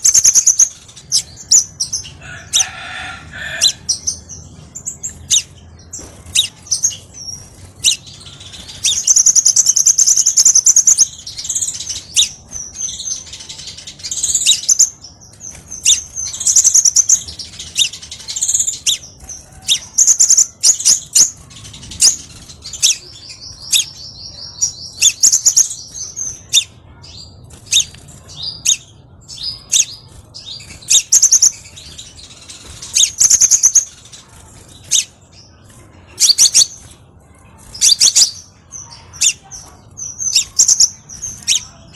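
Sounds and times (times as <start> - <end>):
sunbird chirps and buzzy trills: 0.0 - 41.9.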